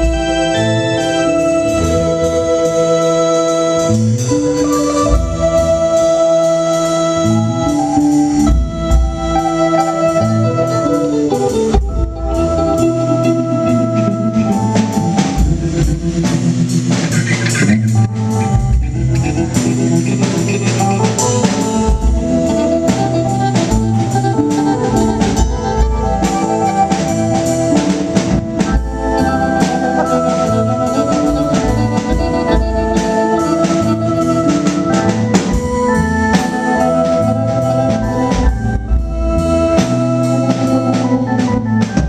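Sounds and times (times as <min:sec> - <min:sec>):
drum kit beat: 0:00.0 - 0:42.0
held organ chords: 0:00.0 - 0:42.0.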